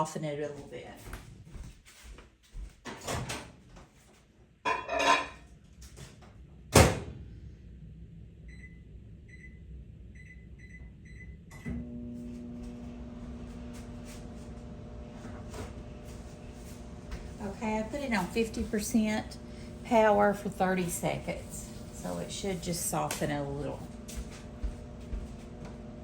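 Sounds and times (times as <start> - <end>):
microwave humming: 4.7 - 26.0.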